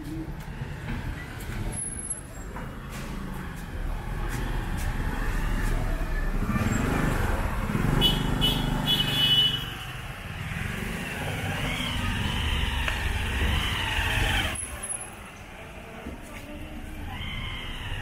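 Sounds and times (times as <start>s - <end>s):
motorcycles and cars passing: 0.0s - 18.0s.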